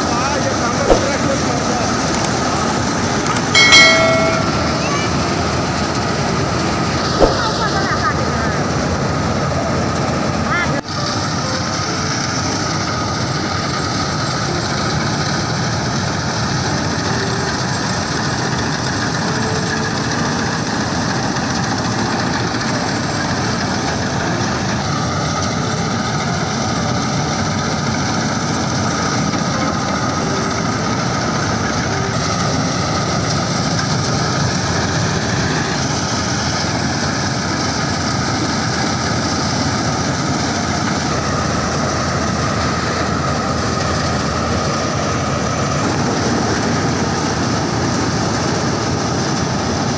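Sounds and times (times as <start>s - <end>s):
combine harvester machinery running: 0.0s - 49.9s.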